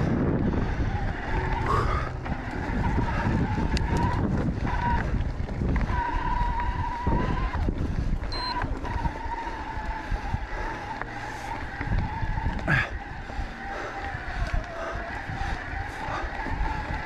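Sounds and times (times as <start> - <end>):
electric bike motor whining: 0.0 - 17.0
tyres rumbling on dirt trail: 0.0 - 17.0.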